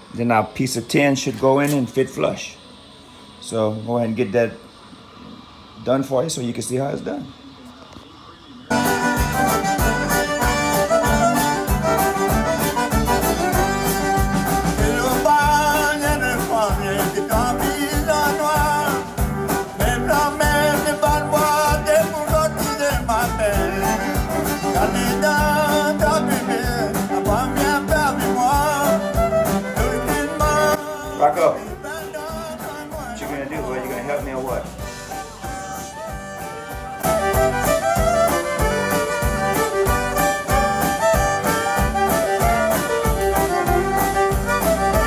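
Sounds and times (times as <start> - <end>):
accordion music with steady beat: 8.7 - 45.0.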